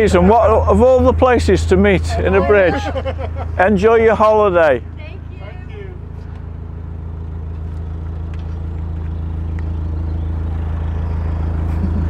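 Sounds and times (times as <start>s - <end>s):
boat diesel engine chugging: 0.0s - 12.0s.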